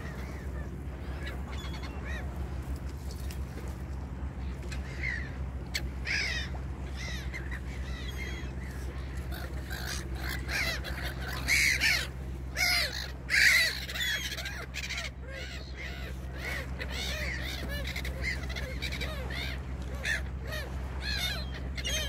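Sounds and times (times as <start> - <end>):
birds calling: 0.0 - 22.0
steady low hum: 0.0 - 22.0.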